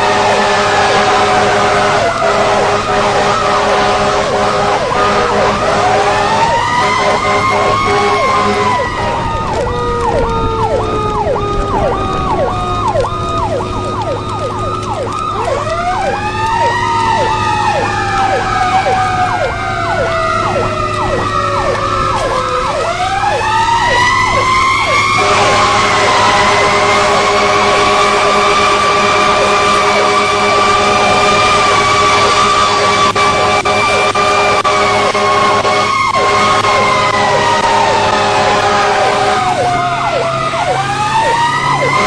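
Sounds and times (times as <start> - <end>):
siren sweeping rapidly: 0.0 - 42.0
siren wailing up and down: 0.0 - 42.0
steady multi-note siren tone: 0.0 - 42.0.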